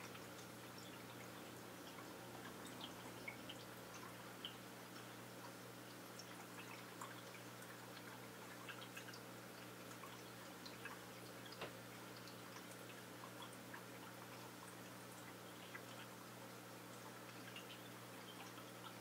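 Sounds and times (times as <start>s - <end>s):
water drips: 0.0s - 19.0s.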